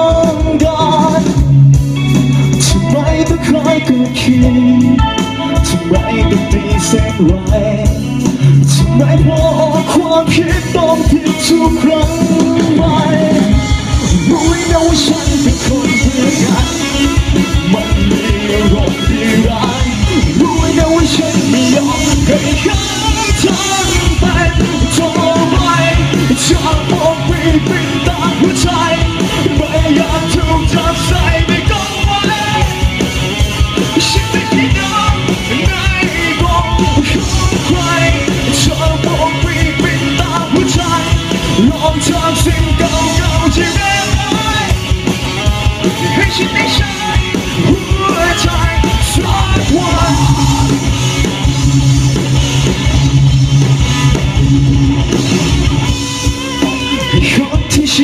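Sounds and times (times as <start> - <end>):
man singing and shouting: 0.0 - 52.8, 55.1 - 58.0
bass guitar: 0.0 - 58.0
distorted electric guitars: 0.0 - 58.0
drum kit: 0.0 - 58.0.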